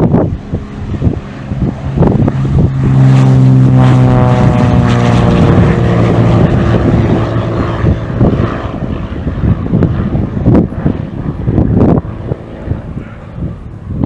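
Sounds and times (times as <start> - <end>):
aircraft engine at full power: 0.0 - 14.0
wind gusts on microphone: 0.0 - 14.0.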